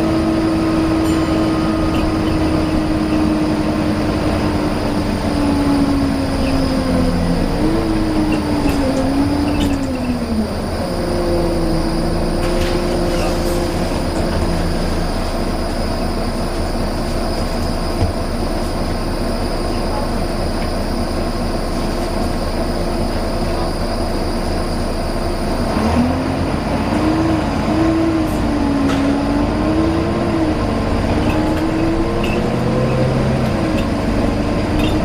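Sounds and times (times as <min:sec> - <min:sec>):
bus drivetrain whine: 0:00.0 - 0:35.0
bus engine: 0:00.0 - 0:35.0
road rumble: 0:00.0 - 0:35.0.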